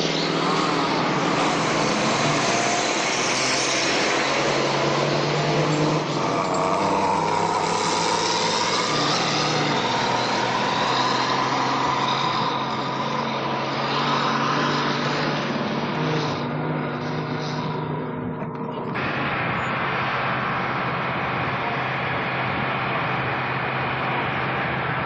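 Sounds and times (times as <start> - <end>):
engine whine: 0.0 - 25.0
vehicle engines humming: 0.0 - 25.0.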